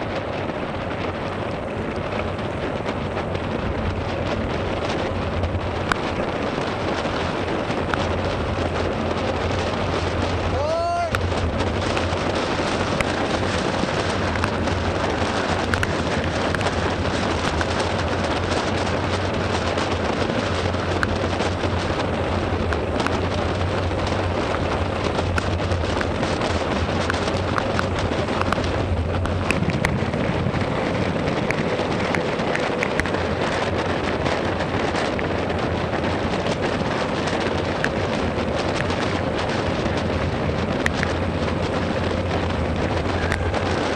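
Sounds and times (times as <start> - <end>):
wind buffeting microphone: 0.0 - 43.9
raindrops ticking on camera: 0.1 - 43.9.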